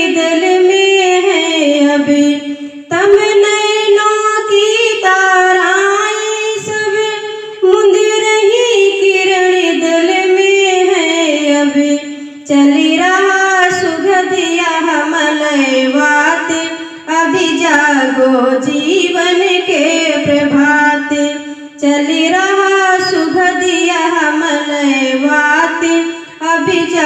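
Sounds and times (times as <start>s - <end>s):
woman singing slow melody: 0.0s - 27.0s.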